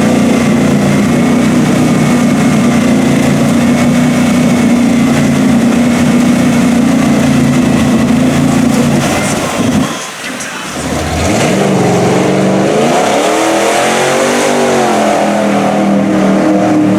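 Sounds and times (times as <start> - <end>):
truck engine running: 0.0 - 16.9.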